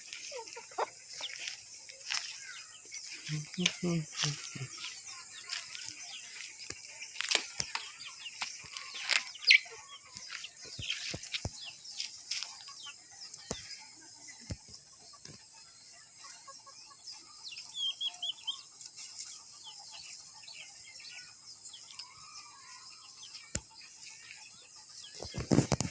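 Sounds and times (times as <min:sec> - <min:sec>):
chicks peeping and clucking: 0:00.0 - 0:25.9.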